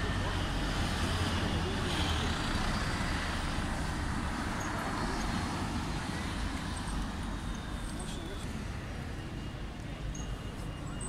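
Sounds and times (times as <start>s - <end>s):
bus passing: 0.0s - 11.0s
cars passing: 0.0s - 11.0s.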